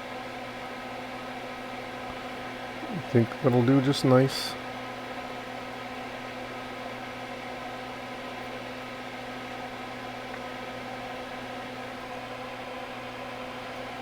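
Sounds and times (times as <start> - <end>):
electrical hum: 0.0 - 14.0
fan-like hiss: 0.0 - 14.0.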